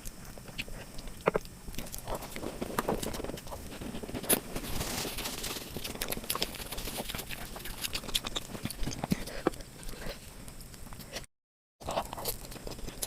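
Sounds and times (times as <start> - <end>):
person chewing sweets: 0.0 - 13.0.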